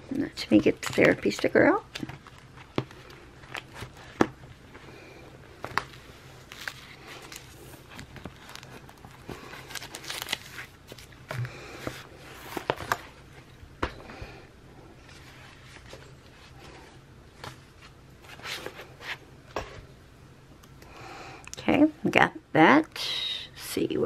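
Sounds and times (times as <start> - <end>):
faint steady low hum: 0.0 - 24.0.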